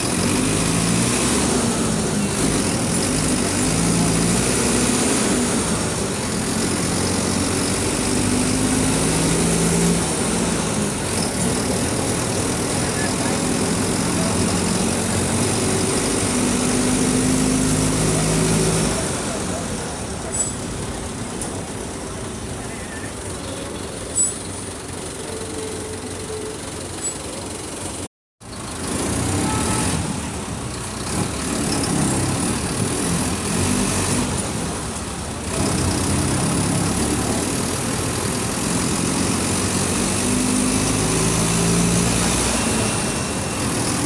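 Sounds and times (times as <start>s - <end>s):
bus diesel engine running: 0.0s - 44.0s.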